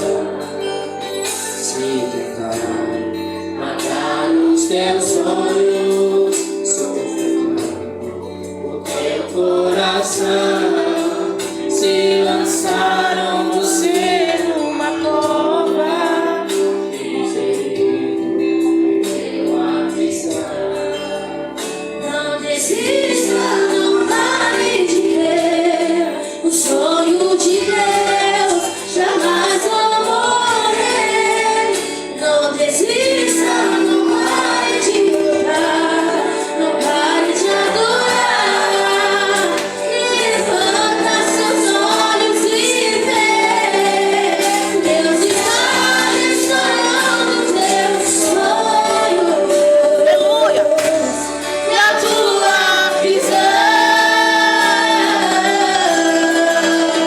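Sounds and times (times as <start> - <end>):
instrumental accompaniment: 0.0 - 57.0
worship song singing: 0.0 - 57.0.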